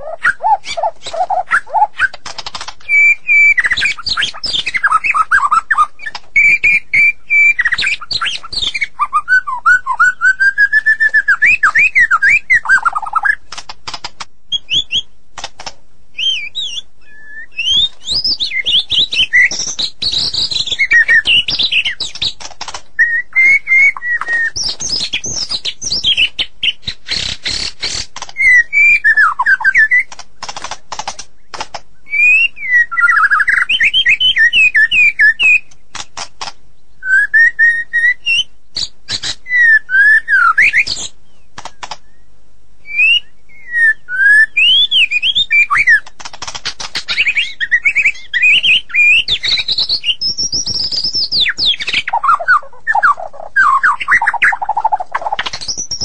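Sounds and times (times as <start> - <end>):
bird singing whistled phrases: 0.0 - 2.2, 2.8 - 13.4, 16.2 - 22.4, 23.0 - 30.1, 32.0 - 35.7, 37.0 - 41.2, 42.0 - 46.1, 47.1 - 56.0
sharp bird clicking notes: 0.2 - 8.9, 10.3 - 16.8, 17.6 - 32.4, 33.0 - 36.6, 40.6 - 42.2, 44.6 - 56.0.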